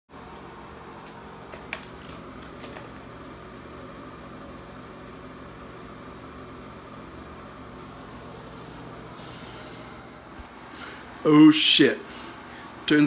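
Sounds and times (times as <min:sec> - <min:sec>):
steady hum and hiss: 0:00.1 - 0:13.0.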